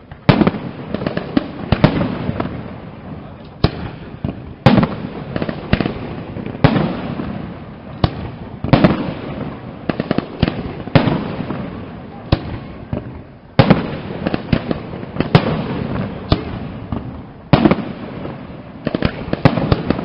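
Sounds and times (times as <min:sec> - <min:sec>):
firework crackling: 0:00.0 - 0:20.0.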